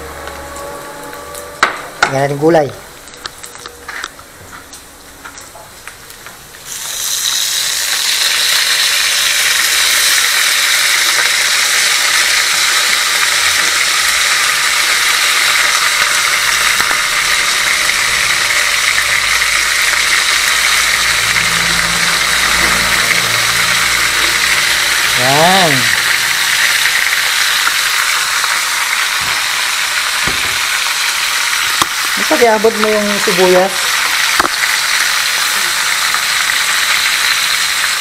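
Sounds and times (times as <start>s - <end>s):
vegetables sizzling in hot oil: 5.3s - 38.0s.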